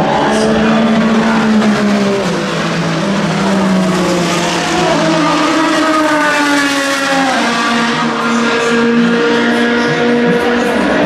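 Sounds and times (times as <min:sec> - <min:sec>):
race car engine passing by: 0:00.0 - 0:11.0.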